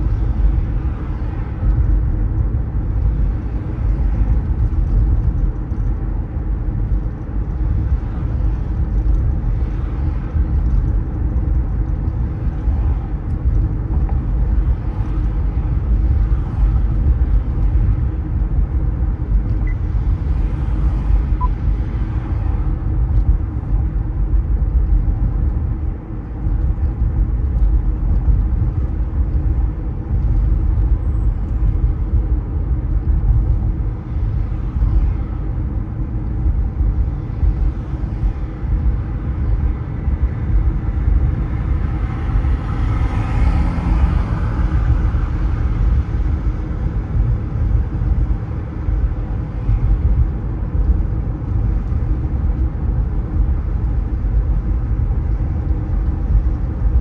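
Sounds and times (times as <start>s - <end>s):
low rumble of road and engine: 0.0s - 57.0s.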